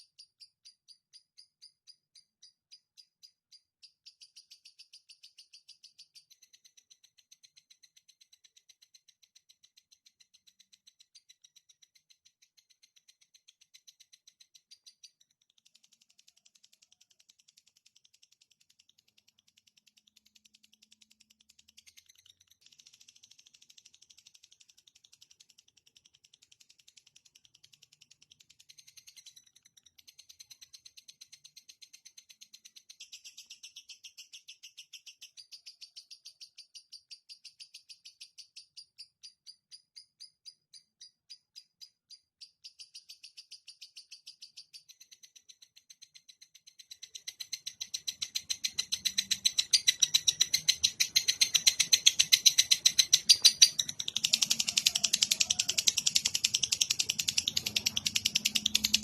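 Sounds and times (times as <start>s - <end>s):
songbird trill: 0.0s - 15.8s, 26.7s - 59.0s.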